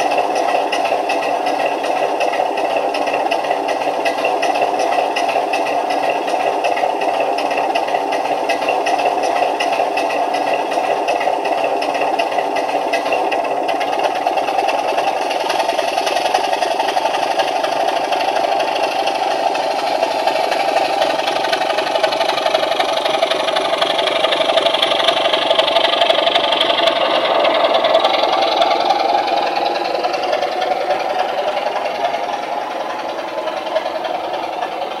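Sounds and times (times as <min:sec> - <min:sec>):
diesel locomotive engine through small speaker: 0:00.0 - 0:35.0.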